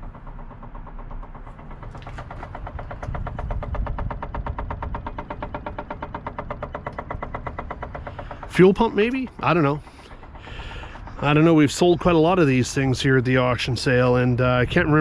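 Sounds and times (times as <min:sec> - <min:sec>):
diesel engine idling: 0:00.0 - 0:15.0
rapid engine knocking: 0:00.0 - 0:15.0.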